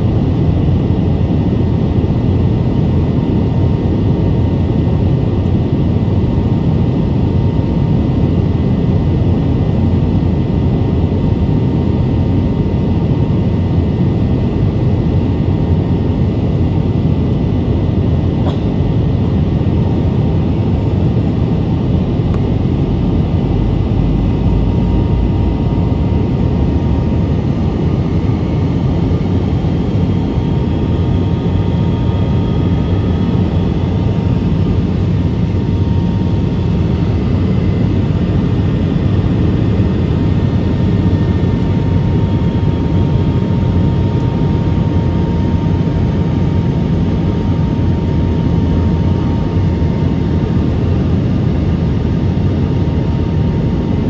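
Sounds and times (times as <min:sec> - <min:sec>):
faint engine whine: 0:00.0 - 0:54.0
jet engine rumble in cabin: 0:00.0 - 0:54.0.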